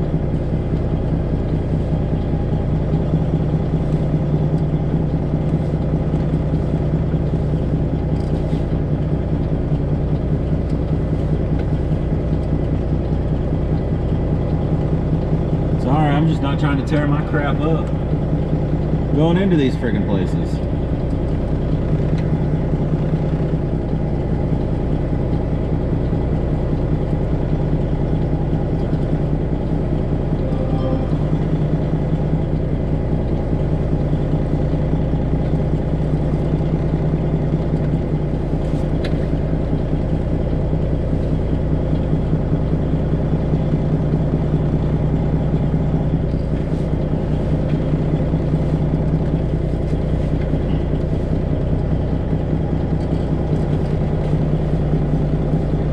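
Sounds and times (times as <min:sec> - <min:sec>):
truck diesel engine running: 0:00.0 - 0:55.9.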